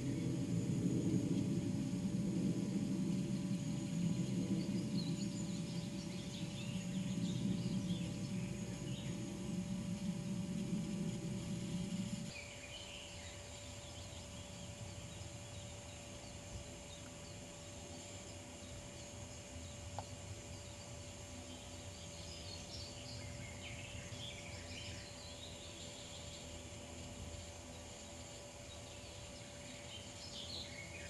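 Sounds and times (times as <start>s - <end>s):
background hiss: 0.0s - 31.0s
distant birds singing: 0.0s - 31.0s
faint hum: 0.0s - 31.0s.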